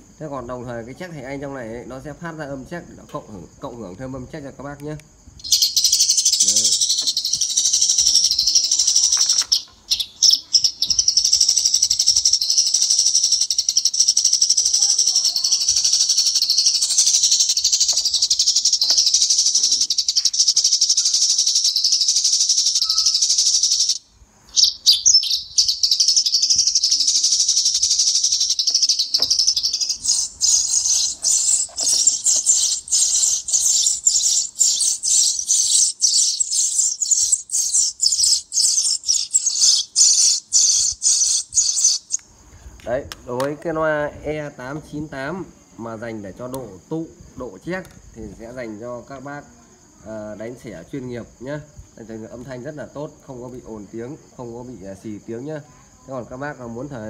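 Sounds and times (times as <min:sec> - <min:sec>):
recorded sparrow chirping from speaker: 0:00.0 - 0:57.0.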